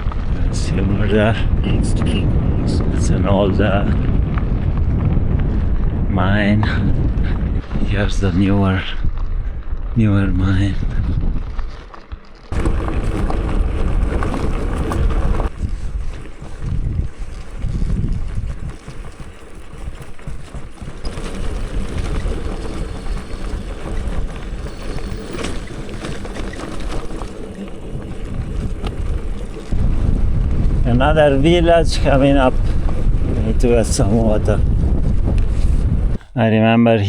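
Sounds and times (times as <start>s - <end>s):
wind buffeting microphone: 0.0s - 36.6s.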